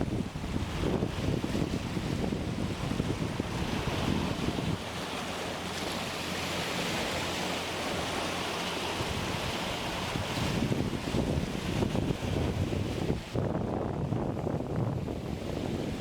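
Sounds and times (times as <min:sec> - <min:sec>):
rough sea waves: 0:00.0 - 0:16.0
wind buffeting microphone: 0:00.0 - 0:16.0.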